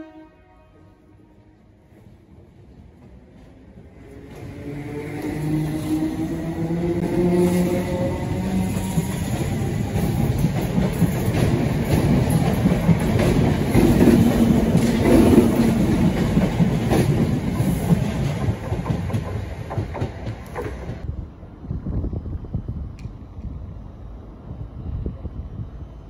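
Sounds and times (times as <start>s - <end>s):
train wheel and rail rumble: 0.0s - 26.0s.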